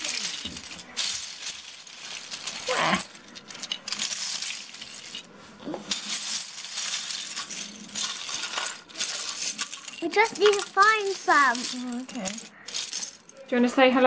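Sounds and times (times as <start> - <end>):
plastic bricks clattering: 0.0 - 13.5.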